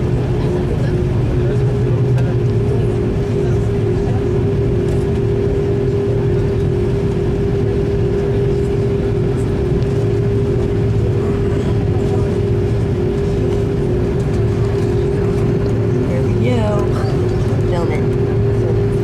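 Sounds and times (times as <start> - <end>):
aircraft cabin engine rumble and hiss: 0.0 - 19.0.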